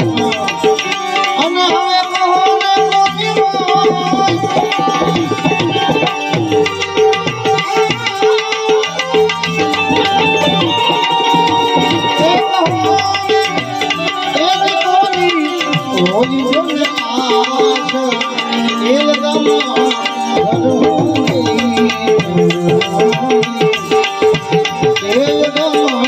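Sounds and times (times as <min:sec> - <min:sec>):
held melodic tones: 0:00.0 - 0:26.0
tabla playing a steady rhythm: 0:00.0 - 0:26.0.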